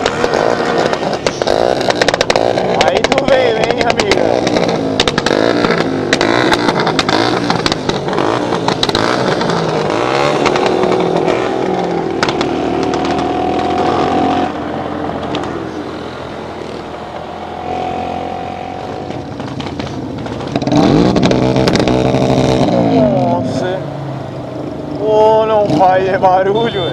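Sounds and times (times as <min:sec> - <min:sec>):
motorcycle engine revving: 0:00.0 - 0:26.9
motorcycle engines passing: 0:00.0 - 0:26.9.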